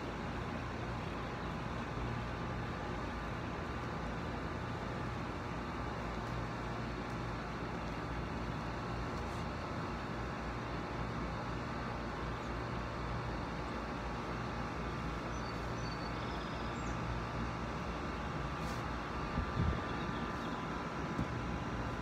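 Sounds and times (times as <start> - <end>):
outdoor background hum and hiss: 0.0 - 22.0.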